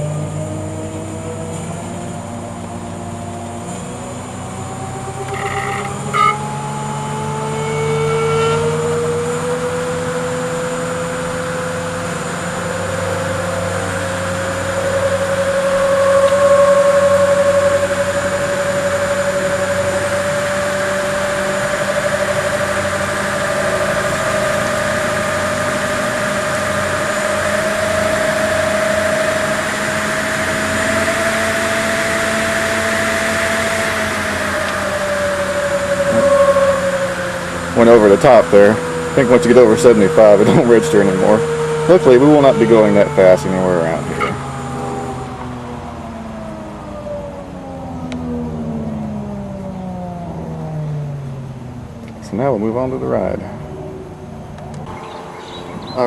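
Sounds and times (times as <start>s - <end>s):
electric hub motor whine: 0.0s - 56.0s.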